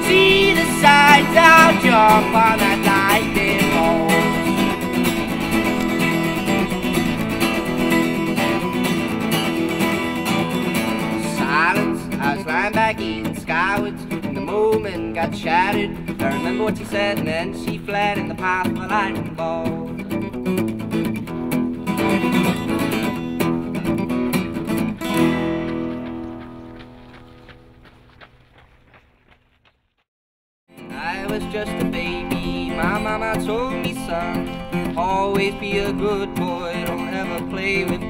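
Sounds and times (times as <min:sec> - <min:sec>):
acoustic guitar strumming: 0:00.0 - 0:27.7, 0:30.7 - 0:38.0.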